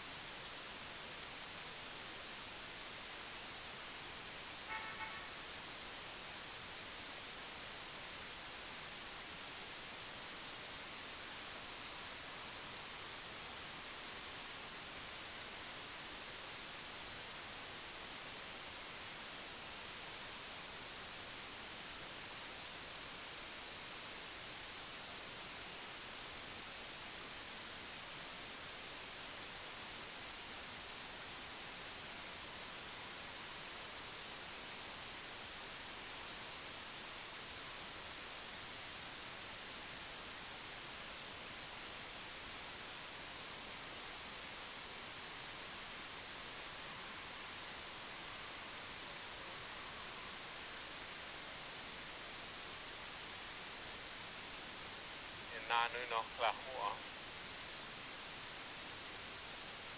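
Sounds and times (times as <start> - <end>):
steady static hiss: 0.0 - 59.9.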